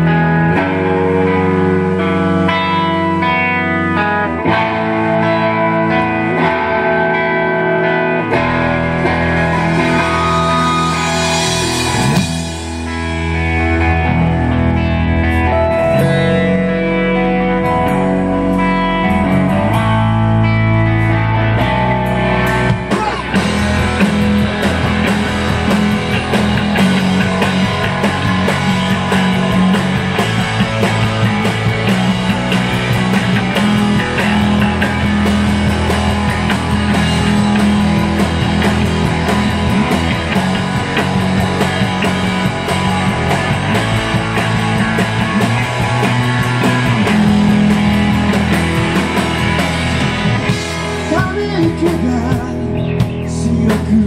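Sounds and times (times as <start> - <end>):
electric guitars ringing: 0.0 - 54.0
live rock band playing: 0.0 - 54.0.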